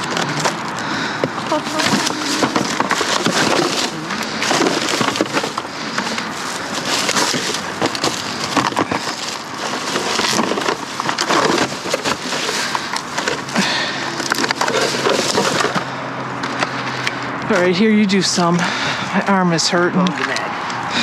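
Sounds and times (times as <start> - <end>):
rummaging through trash: 0.0 - 19.0.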